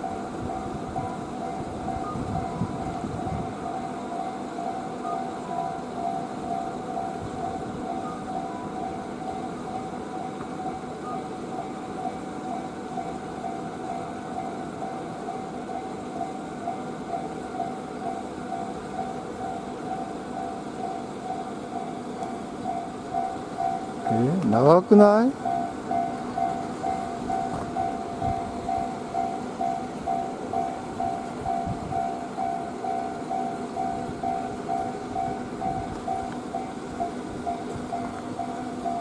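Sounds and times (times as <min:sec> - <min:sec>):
level-crossing warning bell dings: 0:00.0 - 0:39.0.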